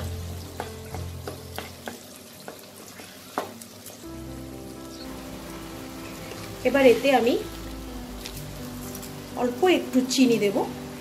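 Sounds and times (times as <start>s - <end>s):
greens sizzling in wok: 0.0s - 11.0s.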